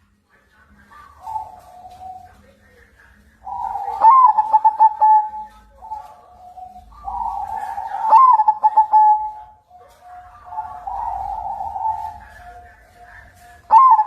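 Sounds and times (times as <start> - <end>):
dove trilled cooing: 0.9 - 2.7, 3.3 - 14.0.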